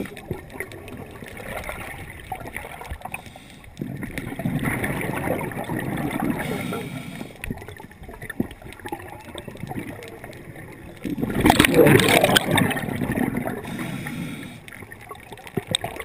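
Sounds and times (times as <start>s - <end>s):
regulator bubbles rushing underwater: 0.0s - 16.0s
underwater background noise: 0.0s - 16.0s.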